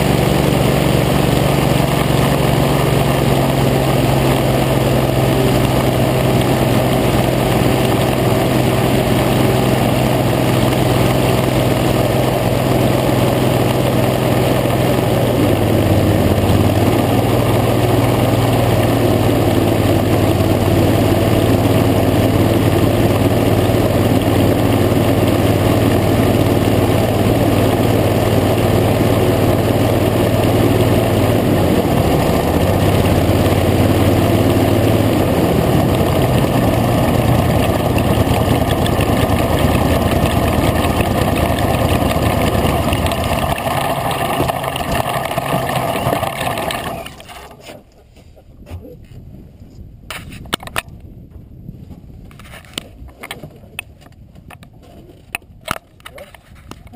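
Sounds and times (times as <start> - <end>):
boat engine running: 0.0 - 47.9
wind: 0.0 - 56.9.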